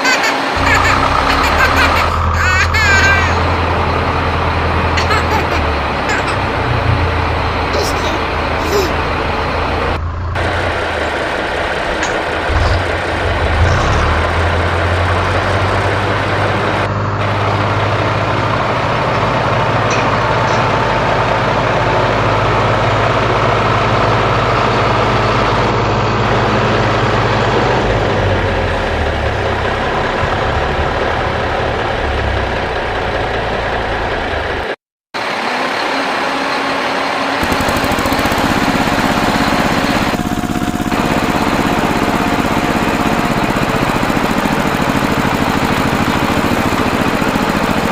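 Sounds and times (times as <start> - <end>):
engine humming: 0.0 - 47.9.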